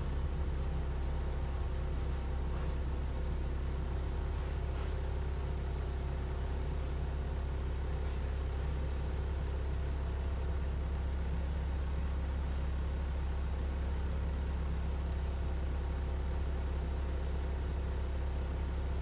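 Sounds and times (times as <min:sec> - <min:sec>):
railcar interior hum: 0:00.0 - 0:19.0.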